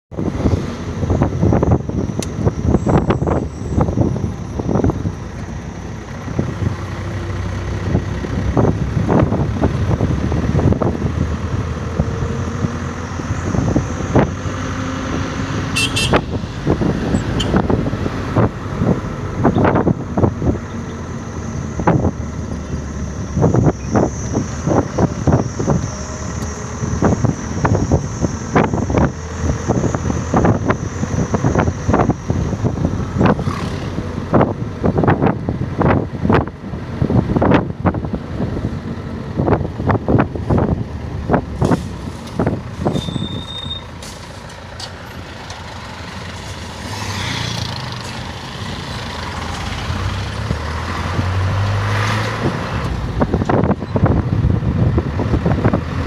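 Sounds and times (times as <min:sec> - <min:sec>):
engine and tyres rumbling: 0:00.0 - 0:56.0
wind buffeting microphone: 0:00.1 - 0:43.2, 0:45.3 - 0:56.0.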